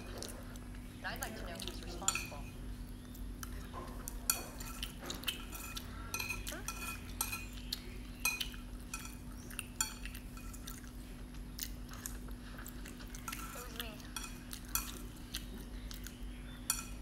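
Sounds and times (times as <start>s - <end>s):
faint steady hum: 0.0s - 17.0s
chopsticks clinking against a bowl: 1.2s - 2.6s, 3.4s - 11.0s, 11.9s - 17.0s.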